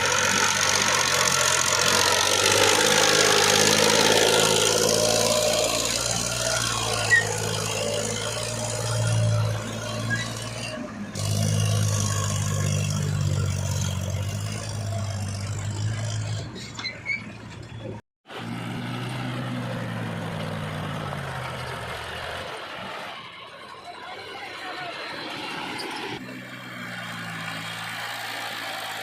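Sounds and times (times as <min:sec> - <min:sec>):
diesel engine running: 0:00.0 - 0:16.7, 0:17.3 - 0:29.0.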